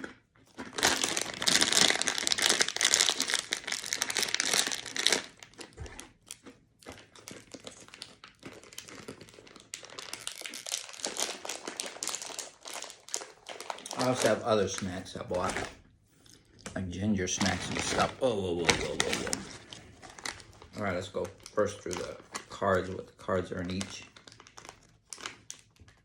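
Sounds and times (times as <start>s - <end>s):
plastic packaging crinkling: 0.0s - 15.8s, 17.2s - 26.0s.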